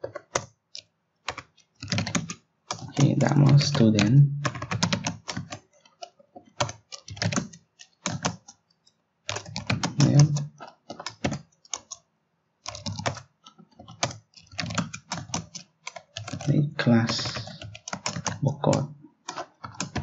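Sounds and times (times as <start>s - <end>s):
keyboard typing: 0.0s - 8.7s, 9.3s - 12.0s, 12.6s - 20.0s.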